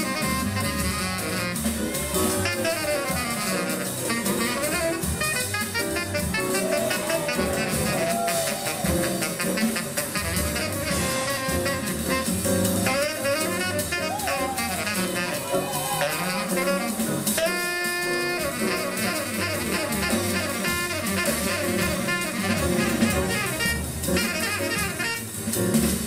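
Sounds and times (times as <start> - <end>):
jazz band with saxophone melody: 0.0 - 26.0.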